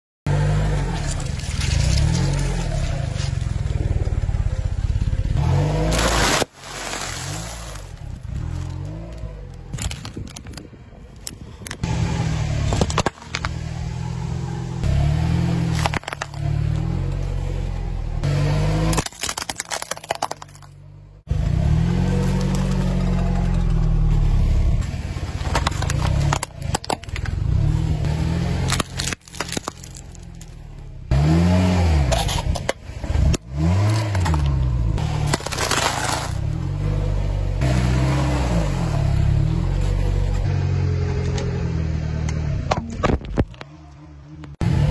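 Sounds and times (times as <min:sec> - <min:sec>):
car rumbling: 0:00.3 - 0:44.9
car tyre crushing objects: 0:00.5 - 0:03.9, 0:05.4 - 0:11.9, 0:12.6 - 0:38.9.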